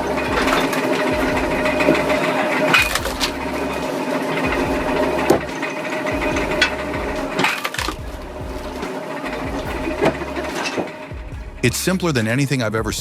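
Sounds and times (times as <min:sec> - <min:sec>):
machine motor humming: 0:00.0 - 0:11.7.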